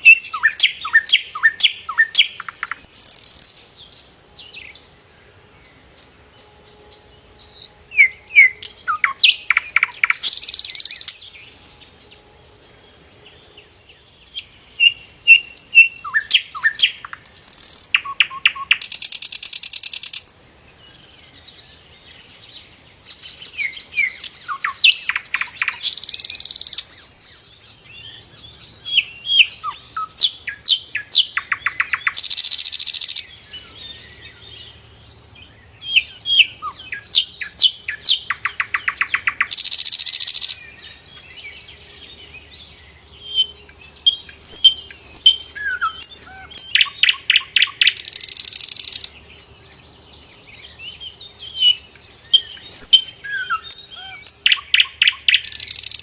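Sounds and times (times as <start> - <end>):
flycatcher singing: 0.0 - 4.9, 6.4 - 56.0.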